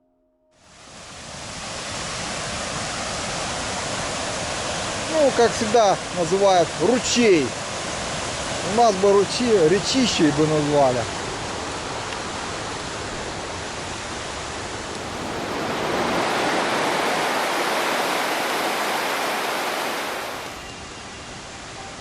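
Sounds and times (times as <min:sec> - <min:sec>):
mountain stream rushing: 0:00.7 - 0:21.8.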